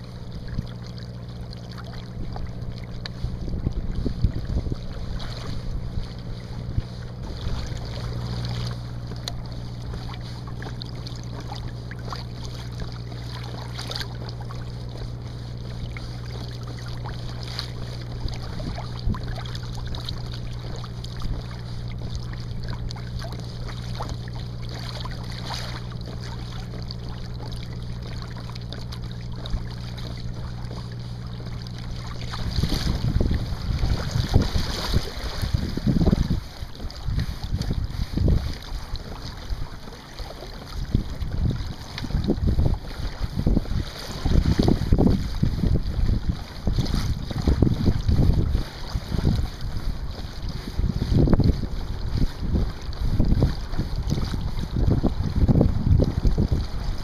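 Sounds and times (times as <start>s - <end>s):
boat engine droning: 0.0s - 57.0s
water slapping hull: 0.0s - 57.0s
wind on microphone: 2.2s - 10.7s, 17.0s - 26.7s, 29.4s - 57.0s.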